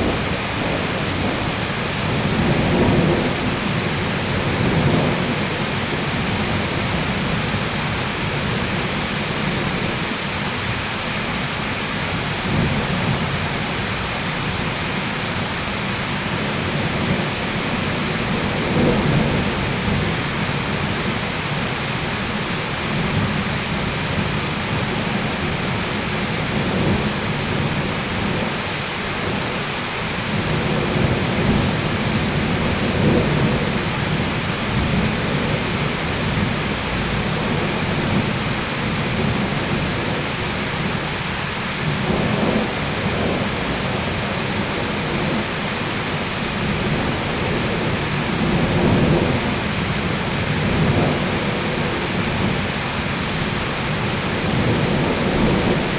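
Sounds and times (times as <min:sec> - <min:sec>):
rolling thunder: 0:00.0 - 0:10.1, 0:12.0 - 0:28.6, 0:29.2 - 0:55.9
heavy rain: 0:00.0 - 0:55.9.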